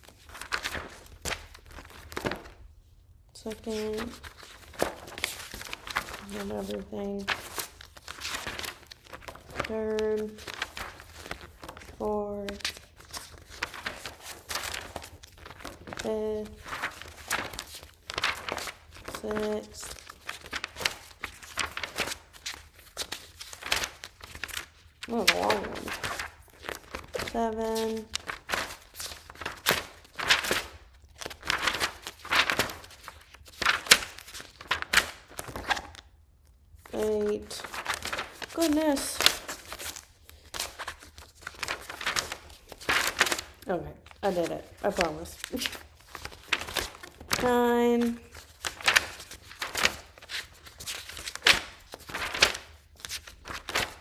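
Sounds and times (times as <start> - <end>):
paper rustling and shuffling: 0.0 - 2.7, 3.4 - 54.0.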